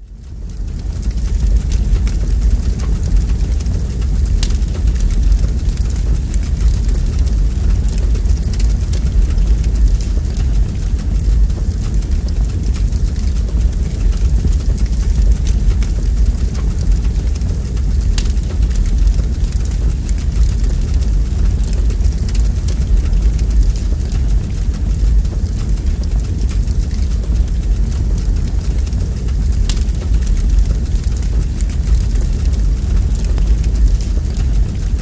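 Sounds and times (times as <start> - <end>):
logs crackling and popping: 0.0 - 35.0
low rumble of flames: 0.0 - 35.0.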